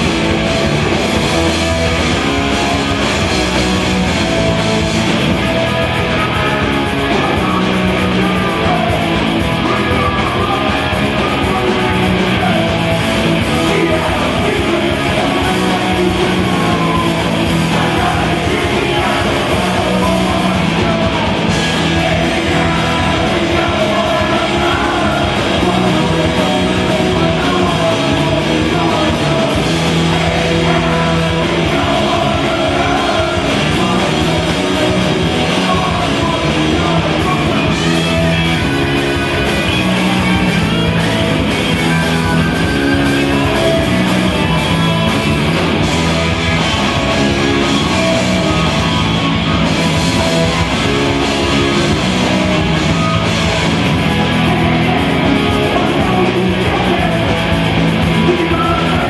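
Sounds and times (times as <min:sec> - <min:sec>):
bass guitar: 0:00.0 - 0:59.0
drum kit: 0:00.0 - 0:59.0
electric guitars: 0:00.0 - 0:59.0
person singing: 0:05.4 - 0:45.4, 0:46.2 - 0:59.0.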